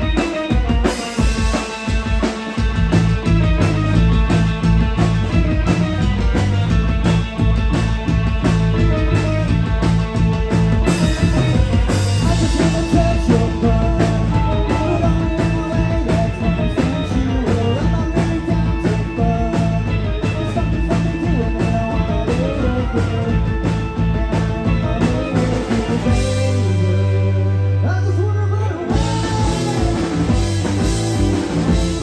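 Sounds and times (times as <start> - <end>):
rock band playing: 0.0 - 32.0.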